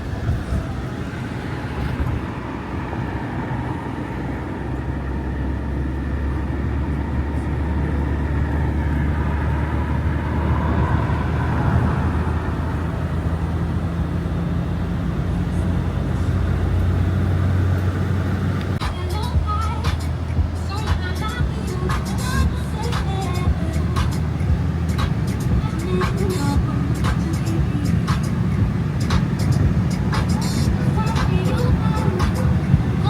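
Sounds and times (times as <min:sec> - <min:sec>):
car interior engine and road drone: 0:00.0 - 0:33.0.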